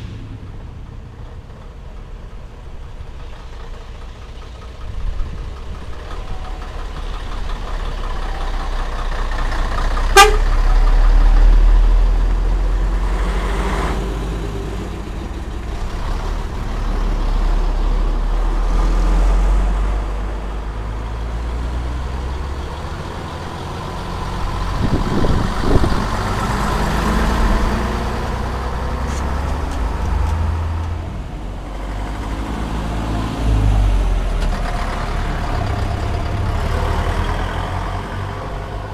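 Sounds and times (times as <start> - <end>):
diesel truck engines passing: 0.0 - 38.9.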